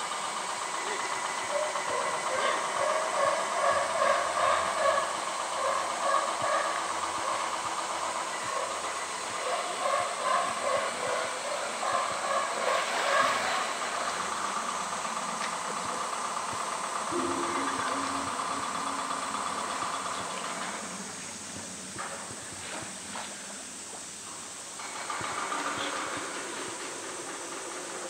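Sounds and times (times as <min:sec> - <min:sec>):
indistinct voices: 0:00.7 - 0:23.8.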